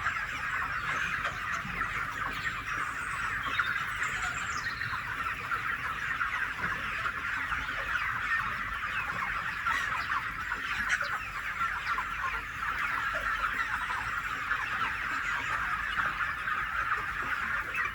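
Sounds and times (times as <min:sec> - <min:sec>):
flock of chickens clucking: 0:00.0 - 0:17.9.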